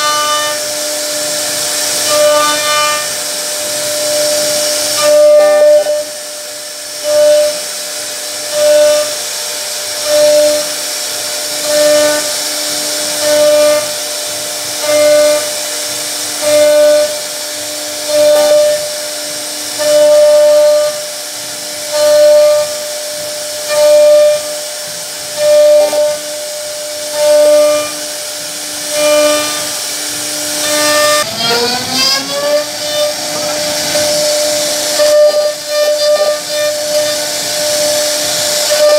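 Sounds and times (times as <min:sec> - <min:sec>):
pulsing drive motor tone: 0:00.0 - 0:38.9
router spindle whine and hiss: 0:00.0 - 0:38.9.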